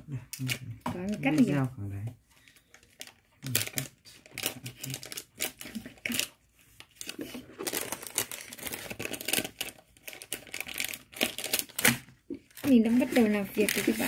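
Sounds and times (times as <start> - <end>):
plastic wrapper crinkling: 2.4 - 14.0.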